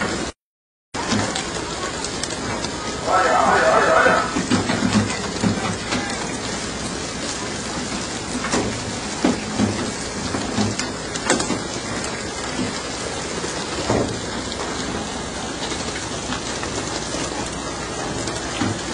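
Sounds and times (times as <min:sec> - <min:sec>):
water rushing along boat: 0:00.0 - 0:00.4, 0:01.0 - 0:18.9.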